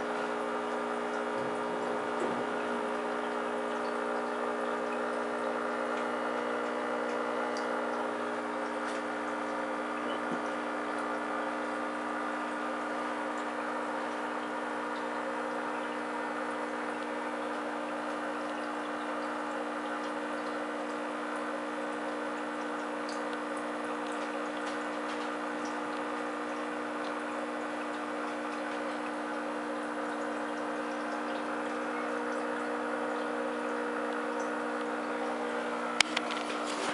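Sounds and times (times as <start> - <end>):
aquarium equipment humming: 0.0 - 36.9
water bubbling and trickling: 0.0 - 36.9
bubbles bursting ticks: 0.5 - 36.4.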